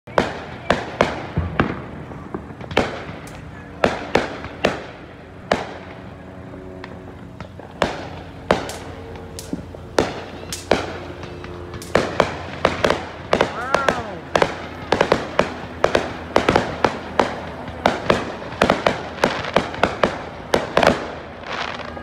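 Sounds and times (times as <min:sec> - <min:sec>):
fireworks bangs with echo: 0:00.1 - 0:22.0.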